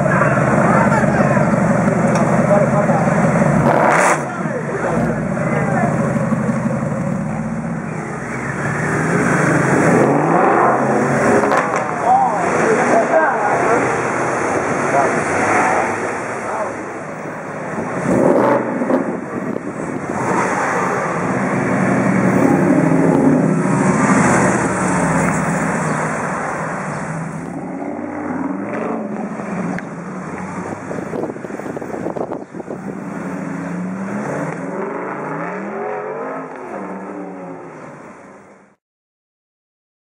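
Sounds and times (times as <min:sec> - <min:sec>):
car engine accelerating hard: 0:00.0 - 0:16.8, 0:17.7 - 0:37.8.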